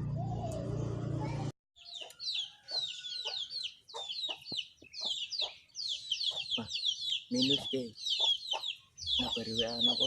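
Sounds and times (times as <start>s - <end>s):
chickens clucking: 1.8s - 10.0s
chicks chirping: 1.8s - 10.0s.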